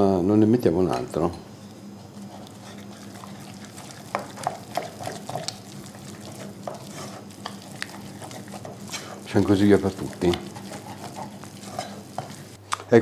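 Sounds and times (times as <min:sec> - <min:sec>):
spoon stirring wet dough: 0:00.9 - 0:12.6.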